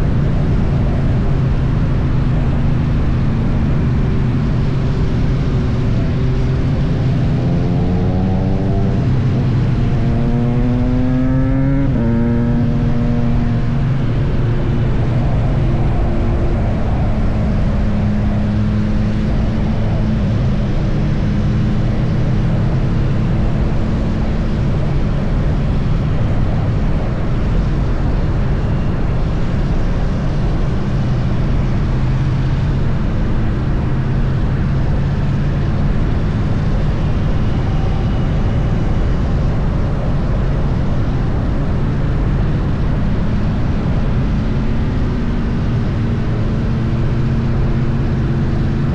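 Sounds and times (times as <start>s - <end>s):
motorcycle engine droning: 0.0s - 48.9s
wind and road noise: 0.0s - 48.9s.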